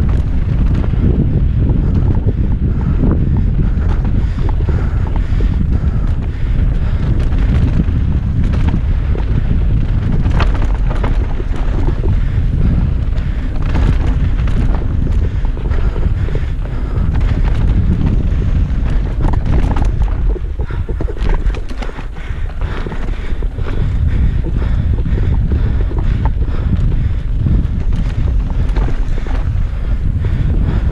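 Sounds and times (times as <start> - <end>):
bike rattling over rocks: 0.0 - 30.9
wind rumble on microphone: 0.0 - 30.9.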